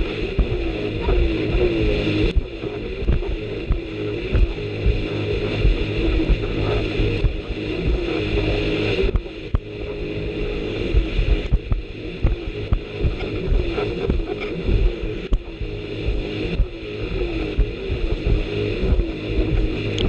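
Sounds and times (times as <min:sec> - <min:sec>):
jet ski engine drone: 0:00.0 - 0:20.0.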